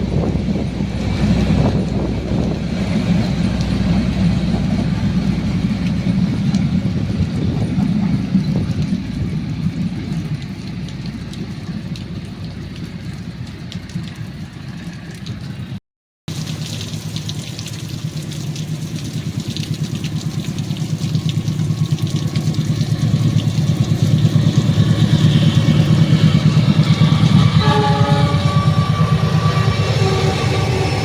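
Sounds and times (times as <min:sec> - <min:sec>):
diesel locomotive engine throbbing: 0:00.0 - 0:15.2, 0:18.0 - 0:31.0.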